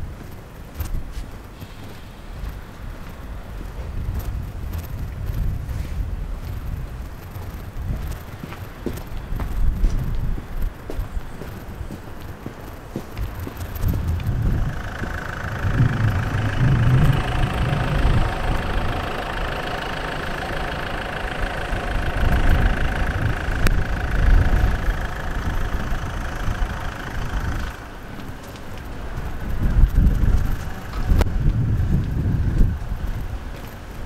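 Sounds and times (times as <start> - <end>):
wind rumbling on microphone: 0.0 - 34.0
vehicle engine idling: 1.3 - 34.0.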